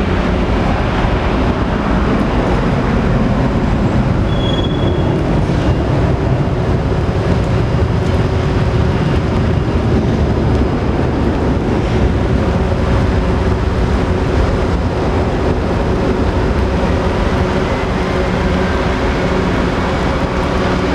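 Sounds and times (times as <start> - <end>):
jet engine rumble: 0.0 - 20.9.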